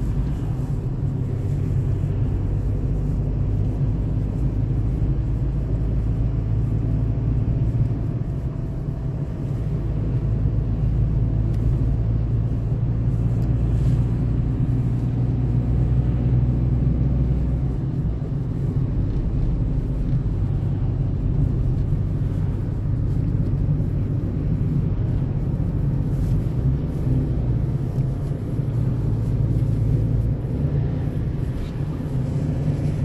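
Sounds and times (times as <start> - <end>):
car engine and tyre rumble: 0.0 - 33.0.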